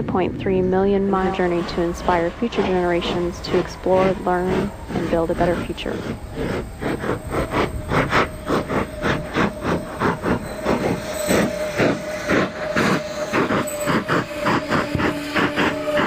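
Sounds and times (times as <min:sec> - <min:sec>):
hissing percussion strokes: 0:00.6 - 0:16.0
held musical note: 0:00.7 - 0:16.0.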